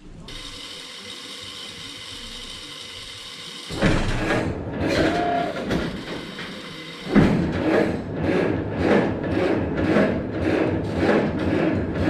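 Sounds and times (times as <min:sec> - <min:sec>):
engine starter whir: 0:00.3 - 0:12.0
engine clattering: 0:01.5 - 0:12.0.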